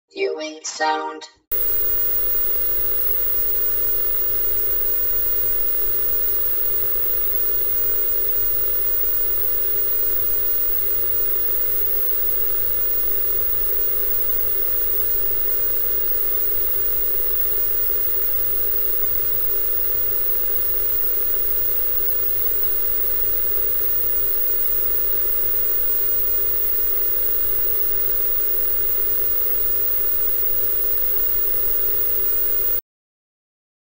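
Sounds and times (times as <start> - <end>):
low hum: 1.5 - 32.8
television static hiss: 1.5 - 32.8.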